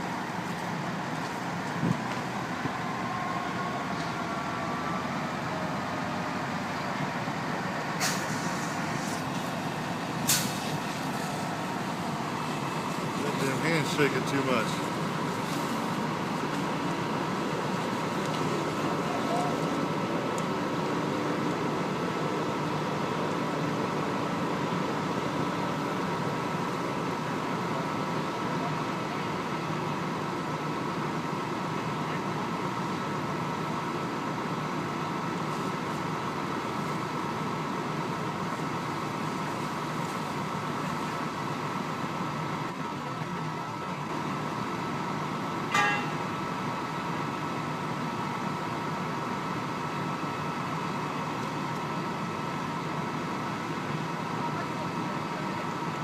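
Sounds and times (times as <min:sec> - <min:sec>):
diesel truck engines idling: 0:00.0 - 0:56.0.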